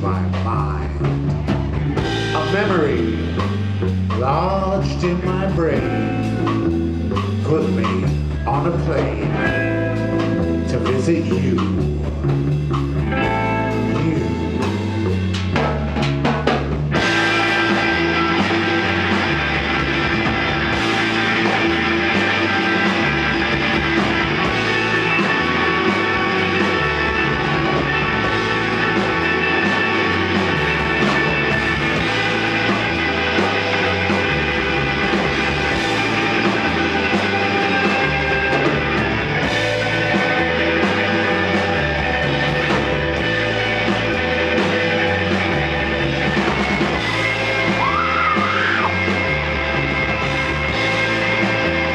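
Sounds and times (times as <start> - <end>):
rock band playing: 0.0 - 51.9.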